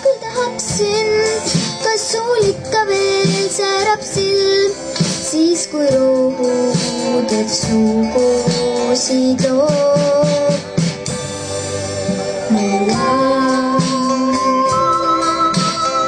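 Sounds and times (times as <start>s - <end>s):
girl singing: 0.0s - 10.7s, 12.5s - 16.0s
instrumental backing track: 0.0s - 16.0s.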